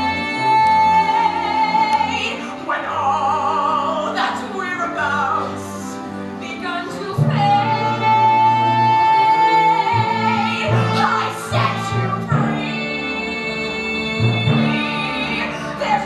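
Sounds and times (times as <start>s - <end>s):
instrumental accompaniment: 0.0s - 16.0s
woman singing: 0.0s - 16.0s.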